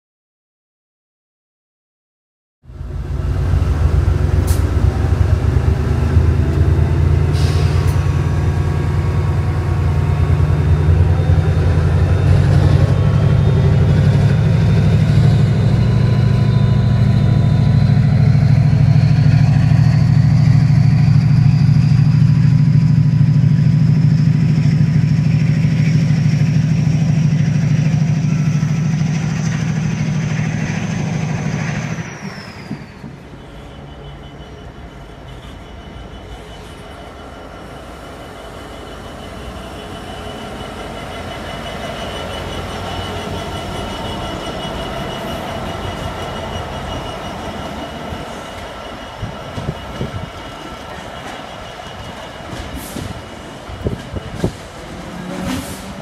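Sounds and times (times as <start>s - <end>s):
deep diesel locomotive engine: 2.6s - 56.0s.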